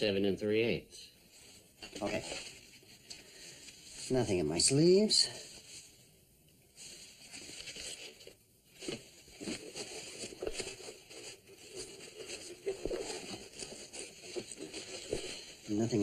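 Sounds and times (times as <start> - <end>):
clothing rustling and crinkling: 1.2 - 16.0.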